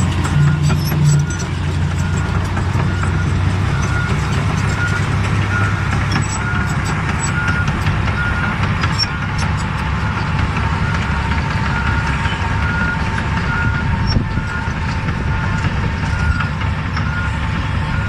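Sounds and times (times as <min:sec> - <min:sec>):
bulldozer diesel engine running: 0:00.0 - 0:18.0
reversing alarm beeping: 0:00.2 - 0:18.0.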